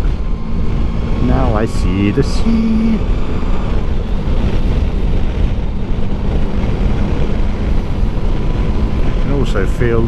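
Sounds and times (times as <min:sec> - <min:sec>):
motorcycle engine: 0:00.0 - 0:10.0
road noise: 0:00.0 - 0:10.0
wind rush on microphone: 0:00.0 - 0:10.0.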